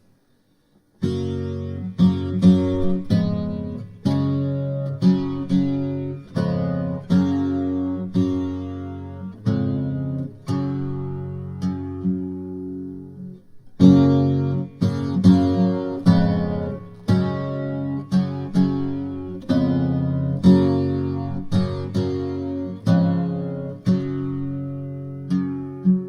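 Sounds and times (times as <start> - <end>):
acoustic guitar chords: 0.0 - 26.0.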